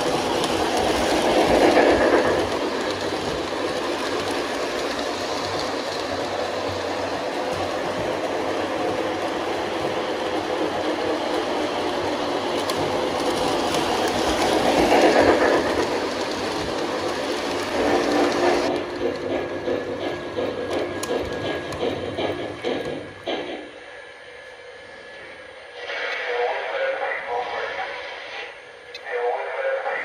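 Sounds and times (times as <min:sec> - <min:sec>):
model train on rails: 0:00.0 - 0:30.0.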